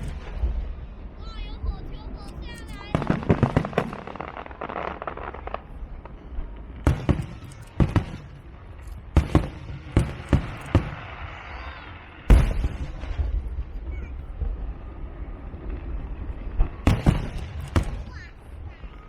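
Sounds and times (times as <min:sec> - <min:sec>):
fireworks bangs: 0:00.0 - 0:19.0
fireworks crackling: 0:00.0 - 0:19.0.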